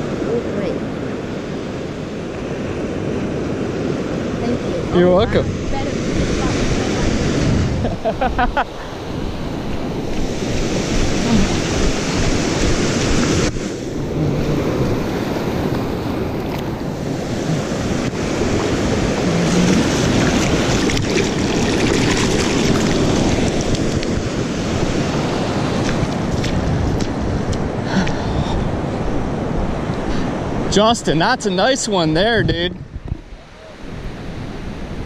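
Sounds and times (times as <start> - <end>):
wind buffeting microphone: 0.0 - 31.0, 31.9 - 35.0
ocean waves breaking on sand: 0.0 - 35.0.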